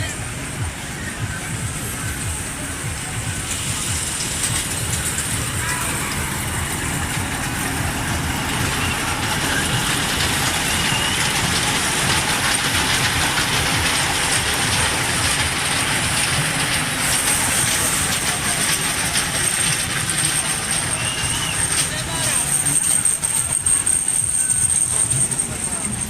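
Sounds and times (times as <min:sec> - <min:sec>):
amusement train ride running: 0:00.0 - 0:26.0.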